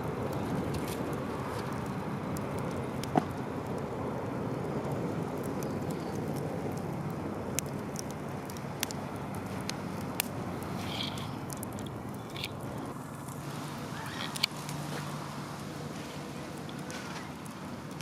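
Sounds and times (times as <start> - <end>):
campfire crackling: 0.0 - 18.0
fire pops: 0.0 - 18.0.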